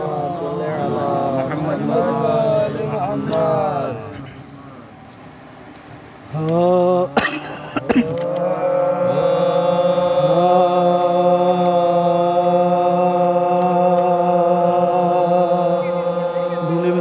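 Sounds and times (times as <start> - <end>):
men chanting: 0.0 - 4.9, 6.3 - 17.0.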